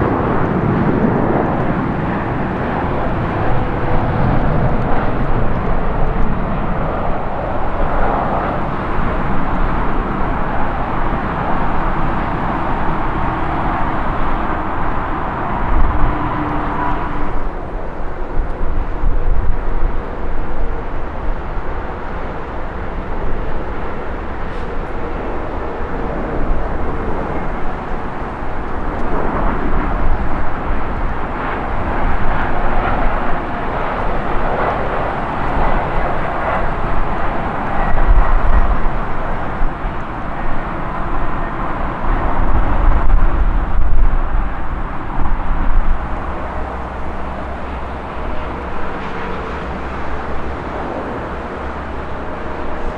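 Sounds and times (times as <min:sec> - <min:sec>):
jet engines roaring: 0:00.0 - 0:52.9
low rumbling gusts: 0:00.0 - 0:52.9.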